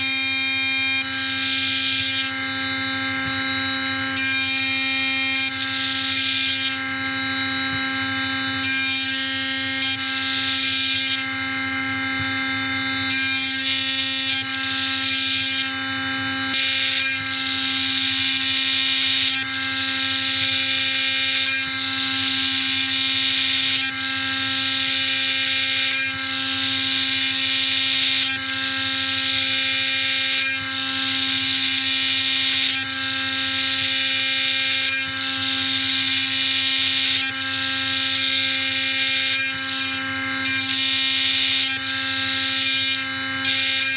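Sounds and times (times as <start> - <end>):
cutter milling metal: 0.0 - 43.9
machine spindle whining: 0.0 - 43.9.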